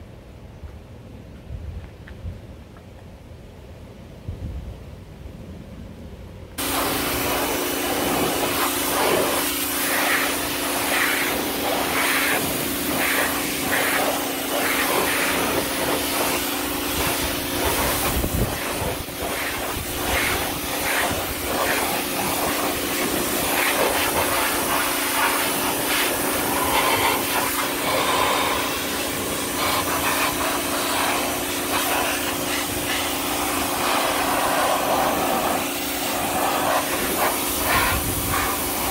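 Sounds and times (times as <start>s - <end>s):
pressure washer spraying water: 6.6s - 38.9s.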